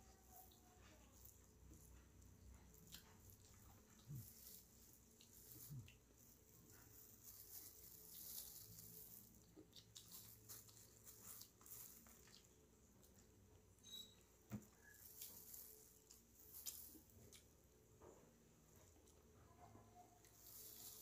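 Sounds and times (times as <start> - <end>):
quiet chewing and mouth clicks: 0.0 - 21.0.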